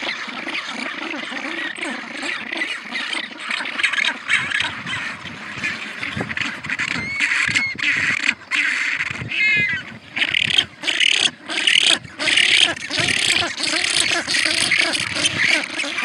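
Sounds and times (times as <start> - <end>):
penguins calling: 0.0 - 16.0
wavering pitched penguin call: 1.0 - 16.0.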